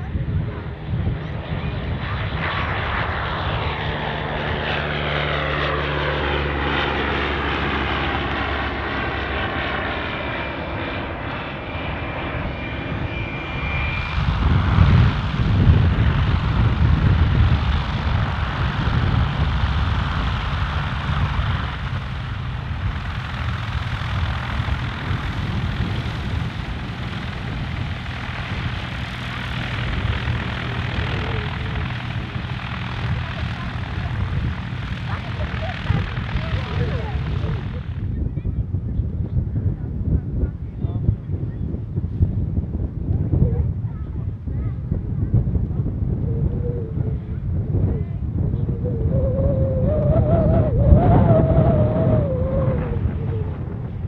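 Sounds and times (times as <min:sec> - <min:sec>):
aircraft engine taxiing: 0:00.0 - 0:54.0
light aircraft engine droning: 0:00.0 - 0:54.0
loud low rumbles: 0:00.0 - 0:54.0.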